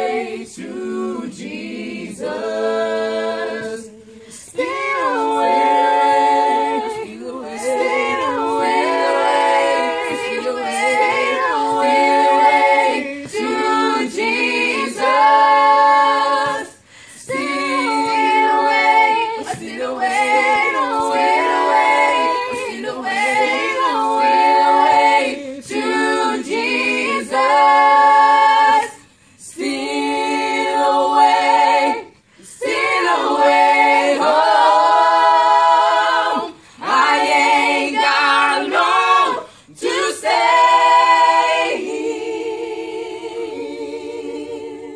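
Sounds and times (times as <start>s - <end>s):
a cappella group singing: 0.0s - 44.9s.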